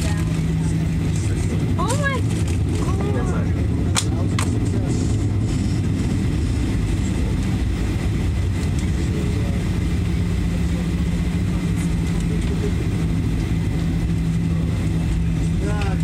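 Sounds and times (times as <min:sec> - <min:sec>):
airplane cabin rumble: 0:00.0 - 0:16.0
steady low hum: 0:00.0 - 0:16.0.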